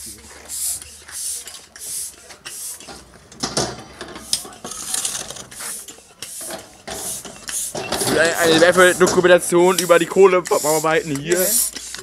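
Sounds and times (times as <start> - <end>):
air pump hissing puffs: 0.4 - 3.0, 4.1 - 12.0.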